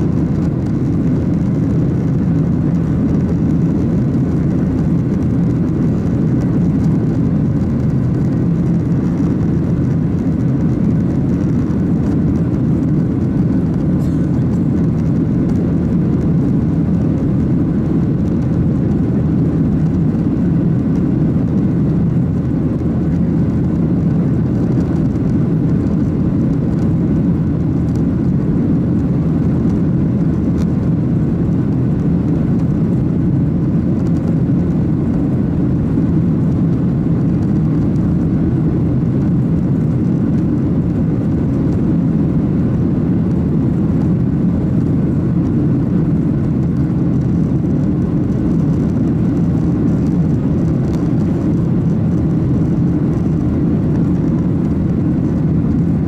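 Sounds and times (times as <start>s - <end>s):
airplane cabin low rumble: 0.0s - 56.0s.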